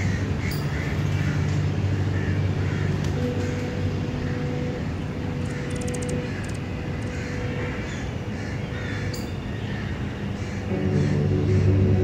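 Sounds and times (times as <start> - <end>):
birds calling: 0.0 - 12.0
steady low hum: 0.0 - 12.0.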